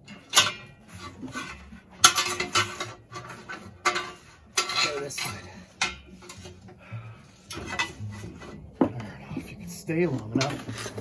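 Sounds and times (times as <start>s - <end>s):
metal clanking: 0.0s - 9.2s
metal strap scraping and rattling: 0.0s - 11.0s.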